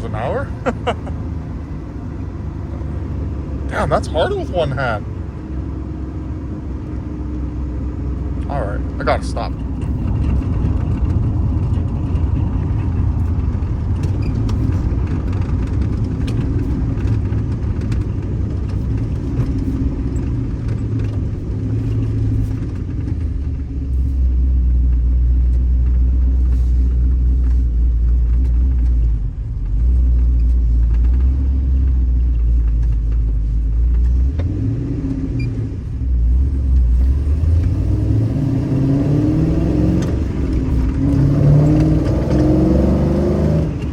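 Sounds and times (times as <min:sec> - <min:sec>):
pickup truck engine rumbling and revving: 0:00.0 - 0:43.9.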